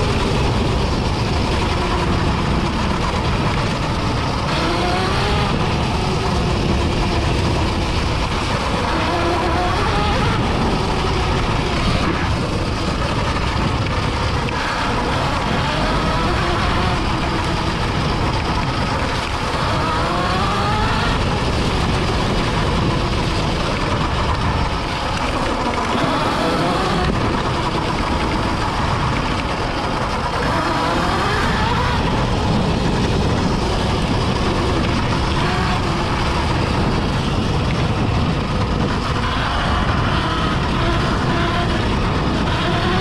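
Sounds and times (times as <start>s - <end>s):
wind and riding noise: 0.0s - 43.0s.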